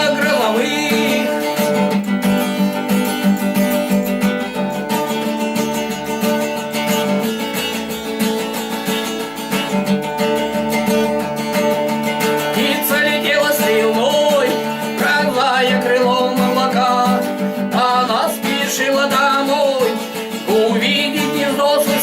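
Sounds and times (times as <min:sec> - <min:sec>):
held backing tones: 0:00.0 - 0:22.0
strummed acoustic guitar: 0:00.0 - 0:22.0.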